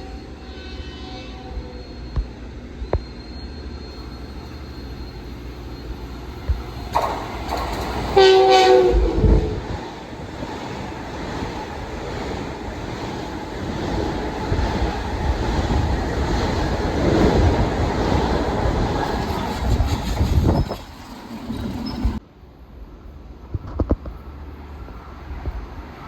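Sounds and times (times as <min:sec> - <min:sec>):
train wheels rumbling on rails: 0:00.0 - 0:22.3.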